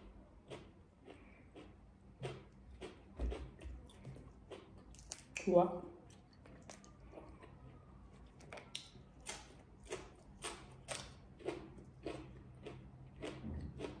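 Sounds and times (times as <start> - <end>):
chewing raw green bean: 0.0 - 14.0.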